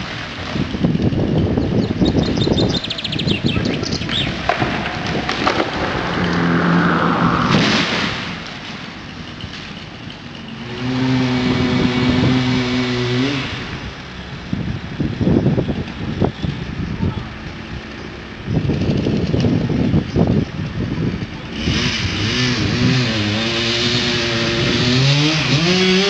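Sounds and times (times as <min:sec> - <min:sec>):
engine running: 0:00.0 - 0:26.0
wind on microphone: 0:00.4 - 0:08.7, 0:11.2 - 0:12.7, 0:13.5 - 0:25.7.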